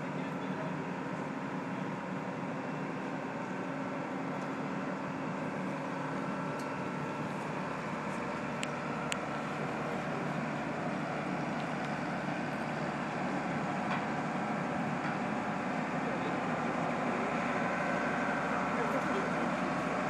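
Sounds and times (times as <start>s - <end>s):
crane engine running: 0.0s - 20.0s.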